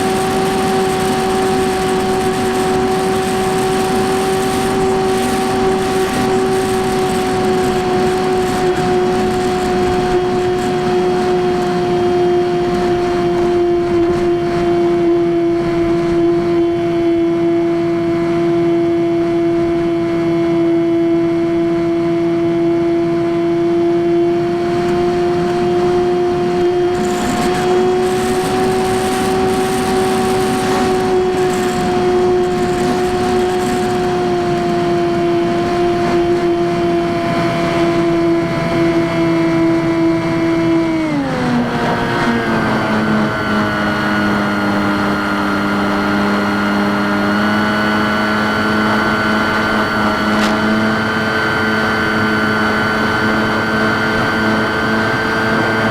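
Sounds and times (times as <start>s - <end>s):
electric motor propeller drone: 0.0s - 55.9s.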